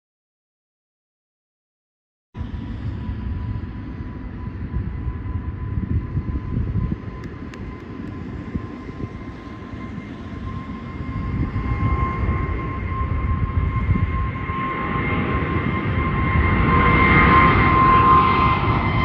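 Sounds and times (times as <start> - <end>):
jet engines rumbling and whining: 2.4 - 19.0.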